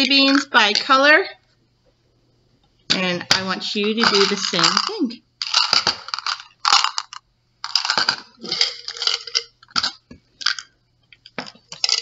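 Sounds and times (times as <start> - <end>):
jelly beans rattling in plastic tubs: 0.0 - 1.0, 2.9 - 12.0.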